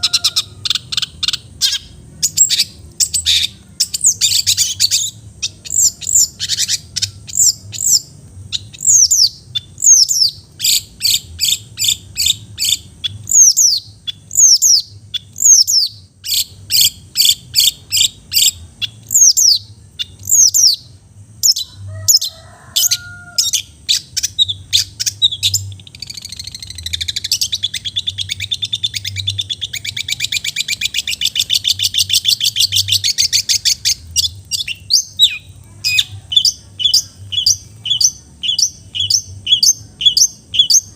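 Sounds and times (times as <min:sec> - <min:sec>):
bird singing high trills: 0:00.0 - 0:40.9.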